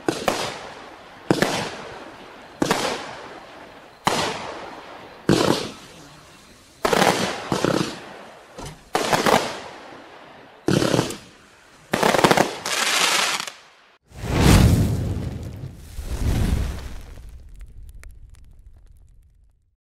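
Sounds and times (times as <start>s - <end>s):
fireworks salvos with crackling: 0.0s - 19.7s.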